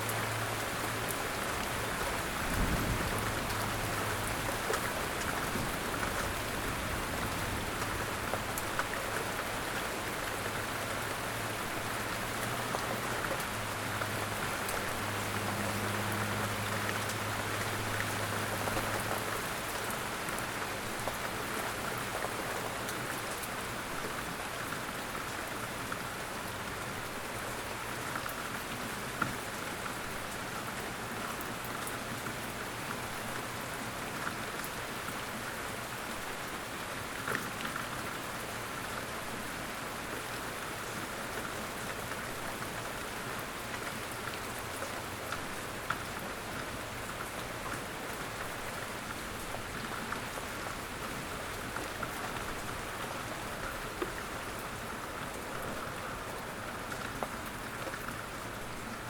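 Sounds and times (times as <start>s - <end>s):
steady rain patter: 0.0s - 59.0s.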